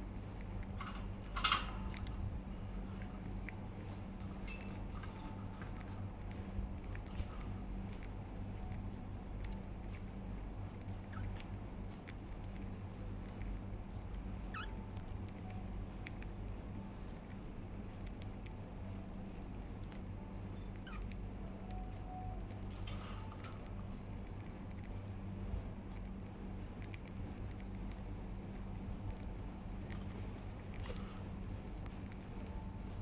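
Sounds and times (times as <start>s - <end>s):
budgies pecking at lettuce: 0.0s - 33.0s
steady low hum: 0.0s - 33.0s.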